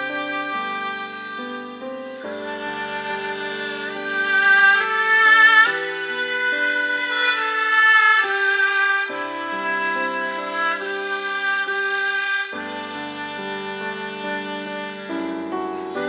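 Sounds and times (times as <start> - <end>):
bowed fiddles playing slow melody: 0.0 - 16.0.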